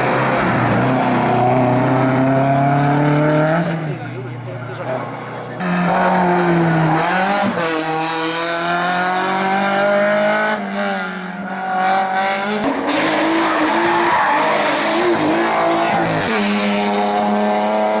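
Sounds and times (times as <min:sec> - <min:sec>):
car engine revving hard: 0:00.0 - 0:04.1, 0:05.4 - 0:18.0.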